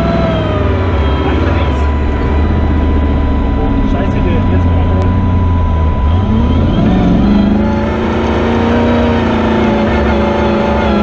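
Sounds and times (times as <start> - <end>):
rally car engine revving: 0.0 - 11.0
faint steady high tone: 0.2 - 11.0.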